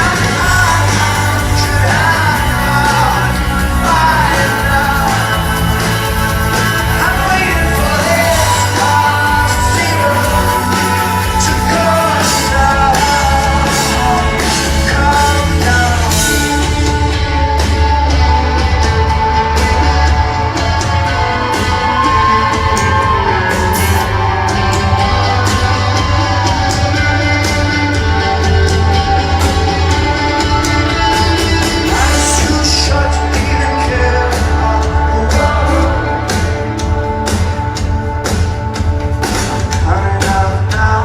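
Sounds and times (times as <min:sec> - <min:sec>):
crowd shouting: 0:00.0 - 0:39.6
live rock band playing: 0:00.0 - 0:41.0
person singing: 0:00.0 - 0:41.0.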